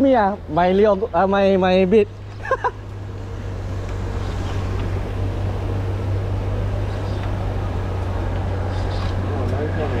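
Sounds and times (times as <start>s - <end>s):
outdoor noise: 0.0s - 10.0s
steady low hum: 0.0s - 10.0s.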